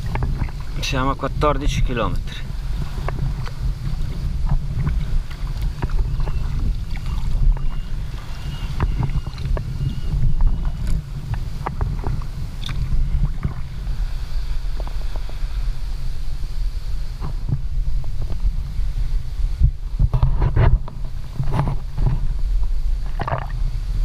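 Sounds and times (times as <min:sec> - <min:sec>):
paddle blades splashing water: 0:00.0 - 0:18.7, 0:20.2 - 0:23.8
low wind rumble: 0:00.0 - 0:24.0.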